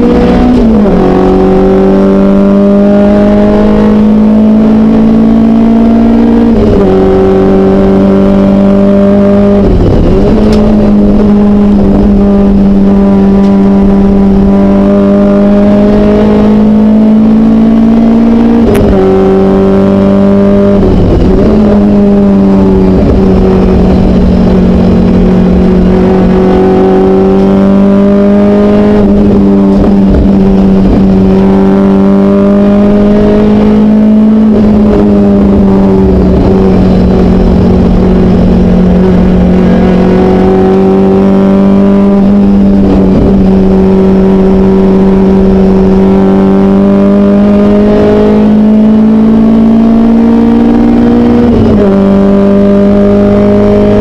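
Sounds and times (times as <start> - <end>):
race car engine at high revs: 0.0 - 54.0
wind and road rush: 0.0 - 54.0.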